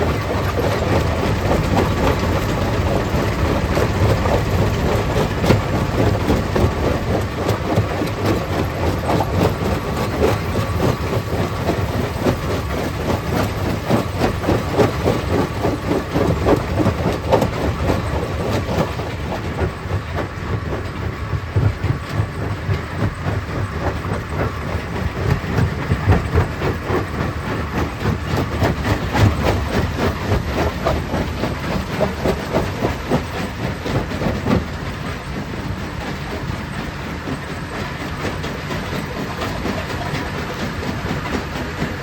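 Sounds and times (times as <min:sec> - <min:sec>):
low machinery rumble: 0:00.0 - 0:42.0.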